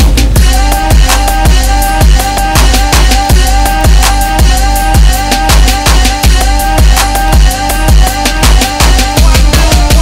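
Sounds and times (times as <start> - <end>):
fast electronic music: 0.0 - 10.0.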